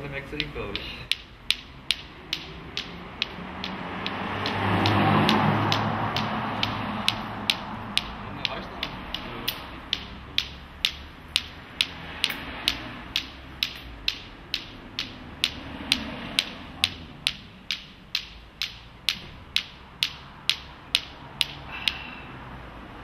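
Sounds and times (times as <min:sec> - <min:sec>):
clacker toy balls clacking: 0:00.0 - 0:22.3.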